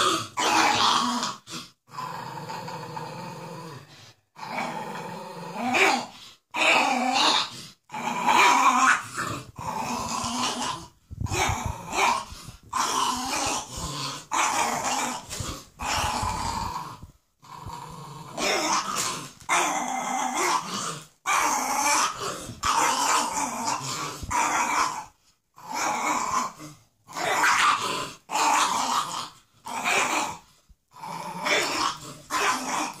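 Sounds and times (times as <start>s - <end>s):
dogs growling: 0.0s - 33.0s.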